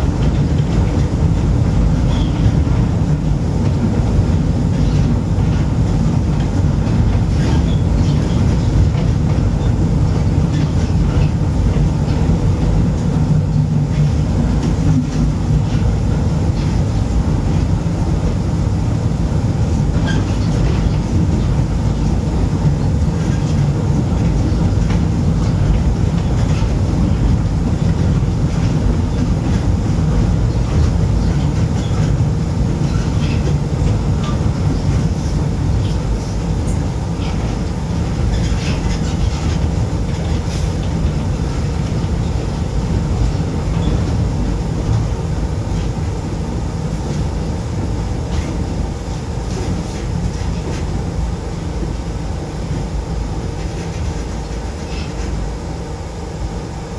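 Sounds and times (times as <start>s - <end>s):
train running rumble: 0.0s - 56.9s.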